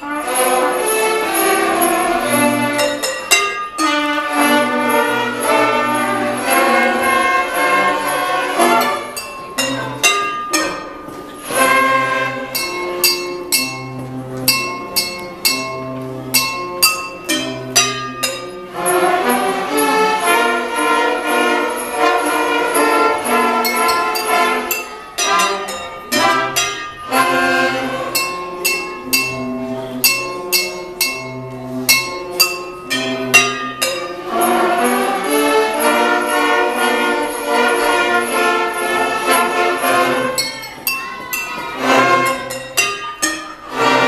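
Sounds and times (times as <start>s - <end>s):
glasses and pots struck: 0.0s - 5.2s, 6.5s - 19.4s, 21.0s - 35.1s, 37.6s - 44.0s
children's orchestra playing: 0.0s - 44.0s.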